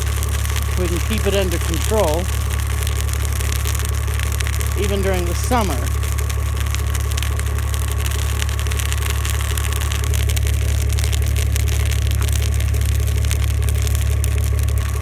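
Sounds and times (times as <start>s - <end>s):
engine idling hum: 0.0s - 15.0s
fire crackling and popping: 0.0s - 15.0s.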